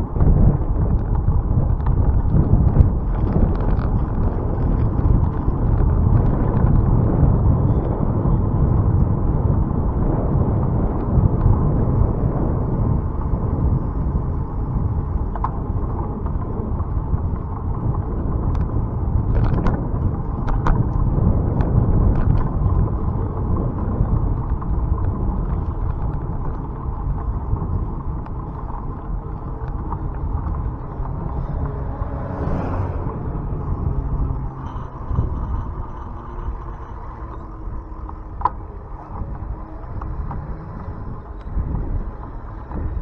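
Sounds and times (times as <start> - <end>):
bicycle tyre noise on road: 0.0 - 43.0
wind rumble on microphone: 0.0 - 43.0.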